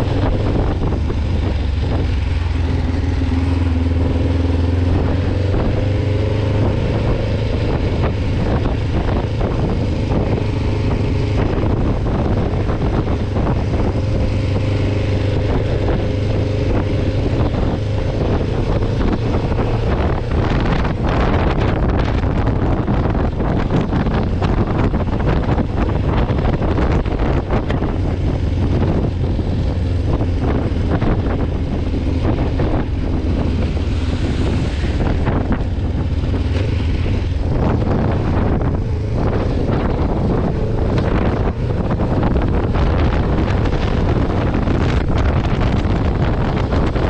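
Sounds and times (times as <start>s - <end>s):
motorcycle engine running: 0.0s - 47.0s
wind rushing over microphone: 0.0s - 47.0s.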